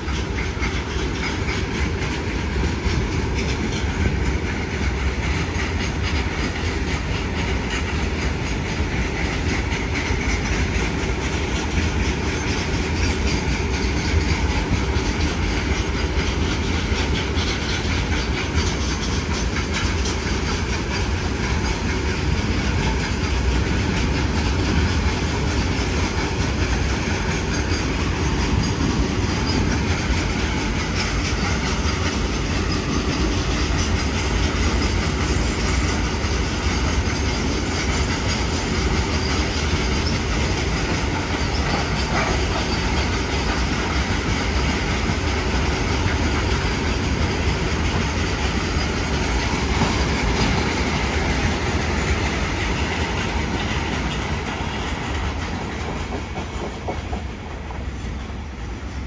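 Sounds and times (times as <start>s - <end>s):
clickety-clack knocks: 0.0s - 58.1s
freight train wheels rumbling: 0.0s - 59.0s.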